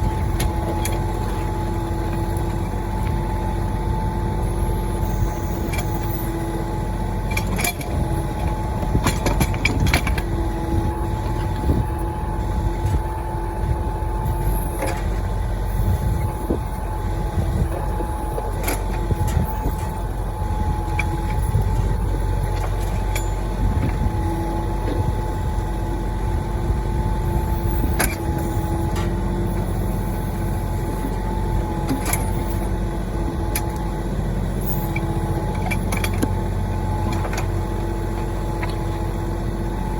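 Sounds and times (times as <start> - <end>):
constant whine: 0.0 - 39.9
tractor diesel engine running: 0.0 - 39.9.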